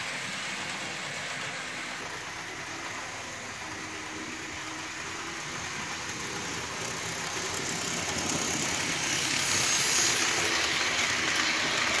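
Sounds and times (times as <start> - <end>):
model train passing: 0.0 - 12.0.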